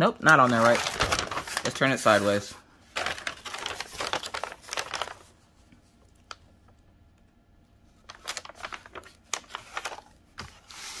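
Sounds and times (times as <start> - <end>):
plastic film rustling and crackling: 0.1 - 6.8, 7.9 - 11.0.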